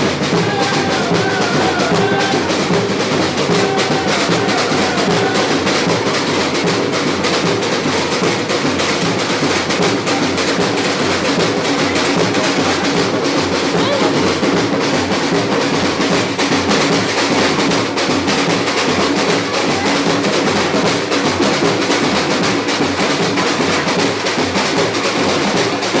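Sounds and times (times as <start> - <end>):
samba drum ensemble: 0.0 - 26.0.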